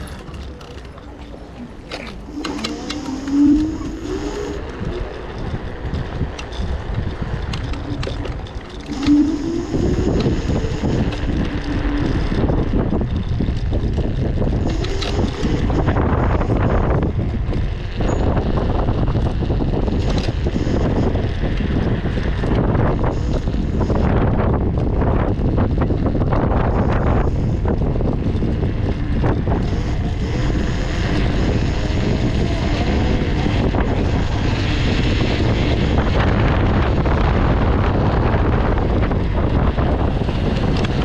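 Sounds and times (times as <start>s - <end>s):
vehicle engine running: 0.0s - 41.0s
wind buffeting microphone: 0.0s - 41.0s.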